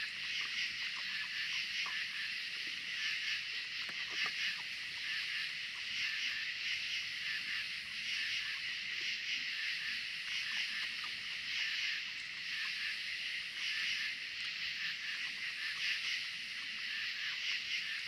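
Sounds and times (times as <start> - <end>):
night insects buzzing: 0.0 - 18.0.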